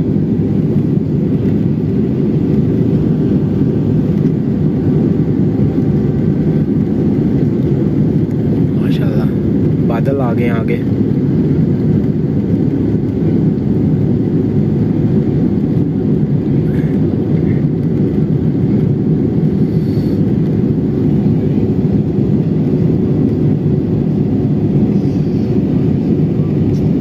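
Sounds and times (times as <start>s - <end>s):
jet engines and airflow drone: 0.0s - 27.0s.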